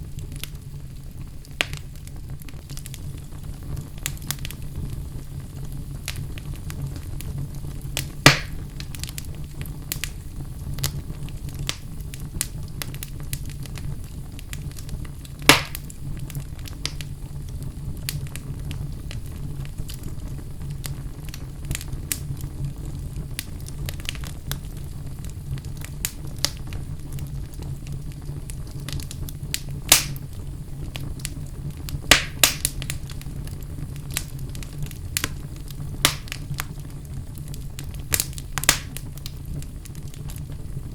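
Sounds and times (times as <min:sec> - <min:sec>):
fire crackling: 0:00.0 - 0:40.9
loud sharp pops of fire: 0:00.0 - 0:40.9
low fire rumble: 0:00.0 - 0:40.9.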